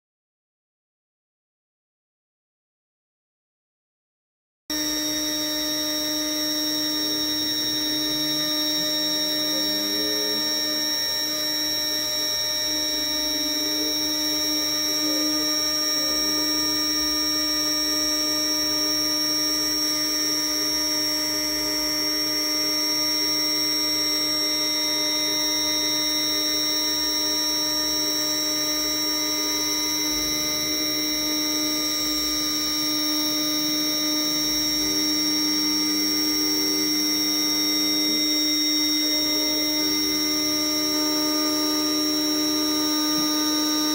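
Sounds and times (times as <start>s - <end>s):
router spindle whining: 4.7s - 43.9s.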